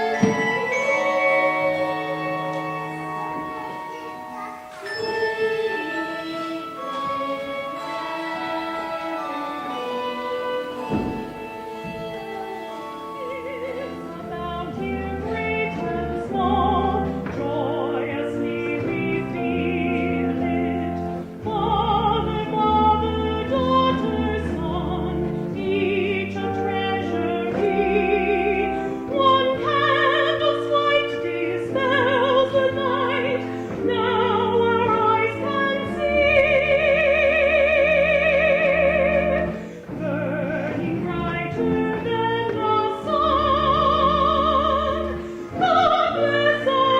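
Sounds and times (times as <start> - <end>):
instrumental accompaniment: 0.0 - 46.9.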